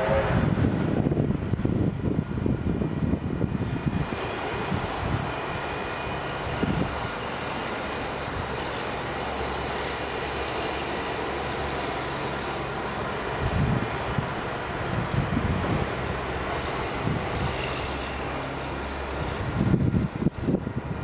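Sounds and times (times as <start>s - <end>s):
distant engine drone: 0.0s - 21.0s.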